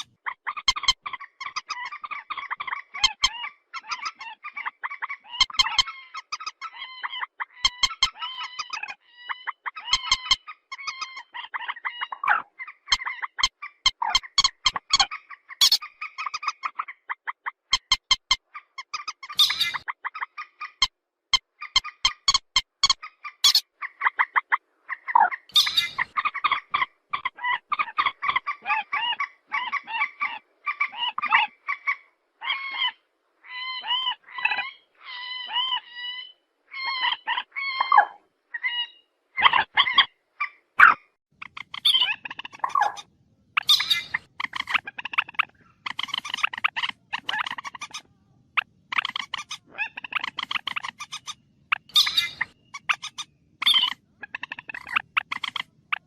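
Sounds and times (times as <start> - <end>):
harsh nasal bird calls: 0.0 - 56.0.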